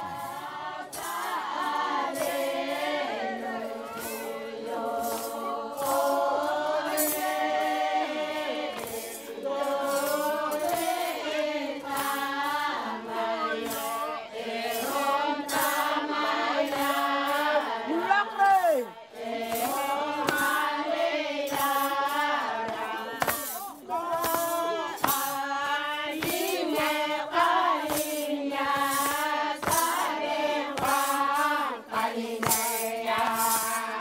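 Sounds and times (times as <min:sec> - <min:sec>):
group singing a chant: 0:00.0 - 0:34.0.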